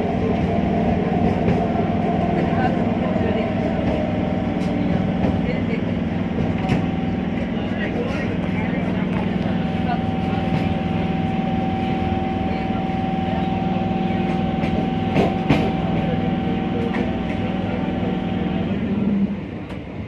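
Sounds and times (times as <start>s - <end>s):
train running hum and rumble: 0.0s - 20.0s.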